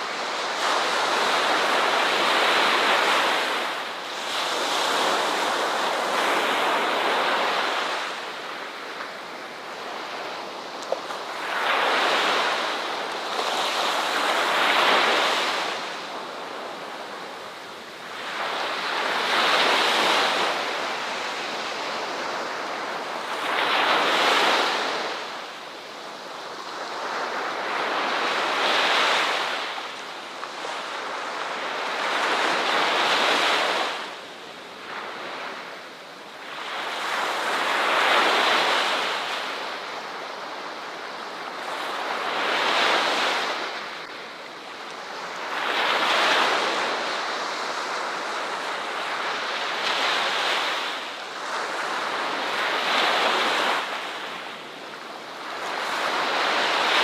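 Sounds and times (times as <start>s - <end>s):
ocean waves rushing in: 0.0s - 25.6s, 26.6s - 57.0s.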